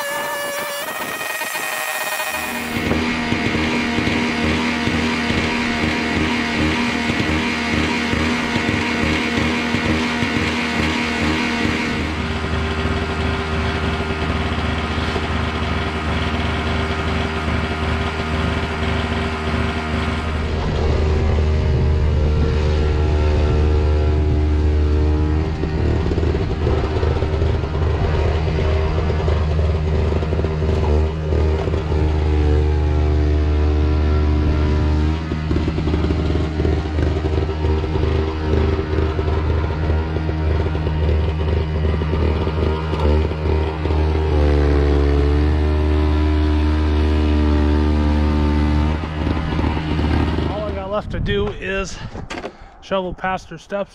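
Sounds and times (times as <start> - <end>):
snow blower engine running: 0.9 - 50.8.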